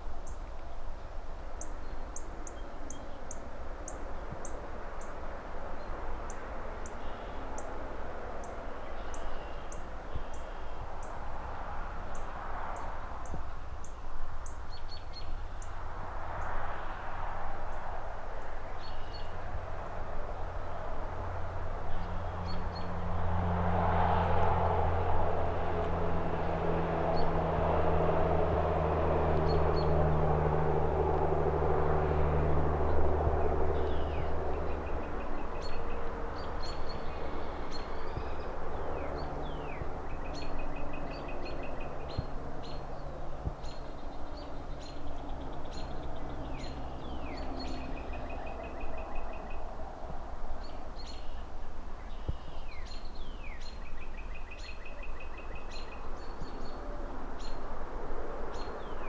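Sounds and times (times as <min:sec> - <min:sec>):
distant city traffic: 0:00.0 - 0:59.0
songbird singing: 0:00.0 - 0:59.0
passing vehicle engine drone: 0:01.3 - 0:59.0.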